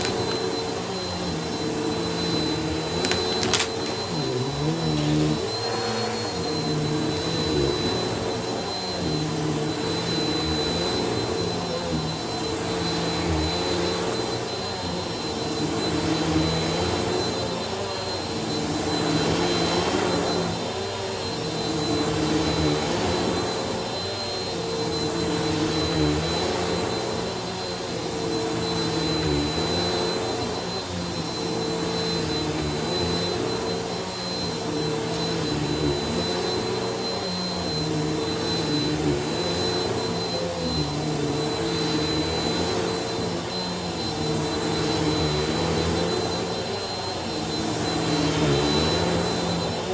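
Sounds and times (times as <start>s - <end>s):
vacuum cleaner on rug: 0.0s - 49.9s.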